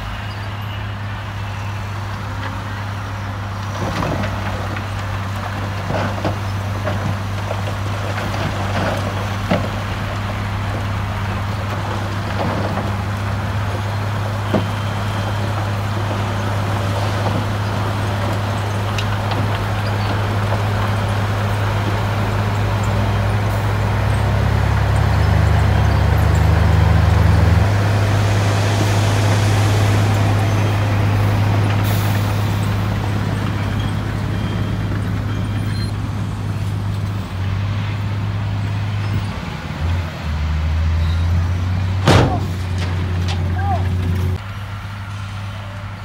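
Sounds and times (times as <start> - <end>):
diesel truck engines droning: 0.0 - 46.0
rock and dirt rushing out: 1.4 - 44.4.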